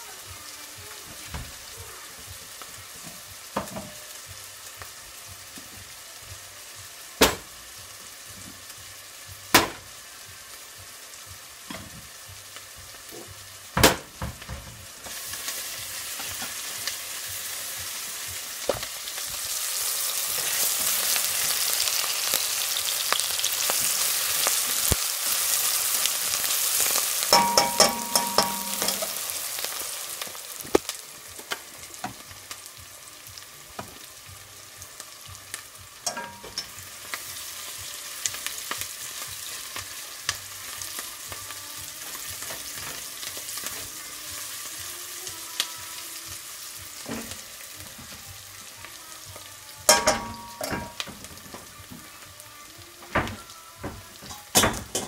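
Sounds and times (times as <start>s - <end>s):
onion sizzling in hot oil: 0.0s - 55.0s.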